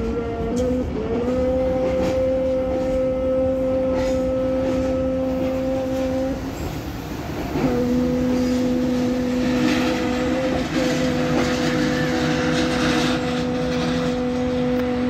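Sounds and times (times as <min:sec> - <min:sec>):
train coaches clattering on rails: 0:00.0 - 0:15.0
train horn blast: 0:00.0 - 0:15.0.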